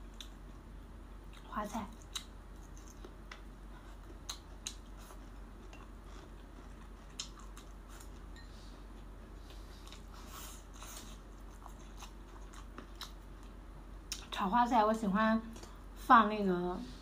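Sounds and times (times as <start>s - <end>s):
person chewing food: 0.0s - 0.6s, 1.2s - 14.3s.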